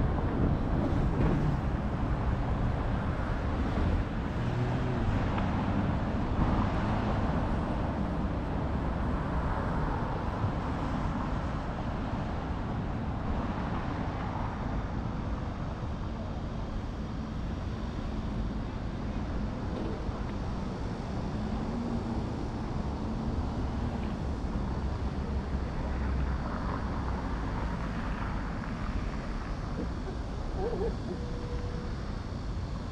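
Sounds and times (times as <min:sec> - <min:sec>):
traffic rumble: 0:00.0 - 0:32.9.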